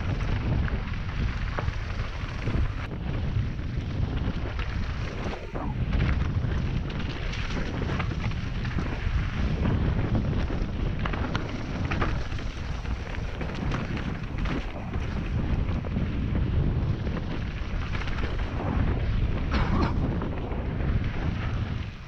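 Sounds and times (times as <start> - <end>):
bike clicks and rattles: 0.0 - 22.0
wind rumbling on microphone: 0.0 - 22.0.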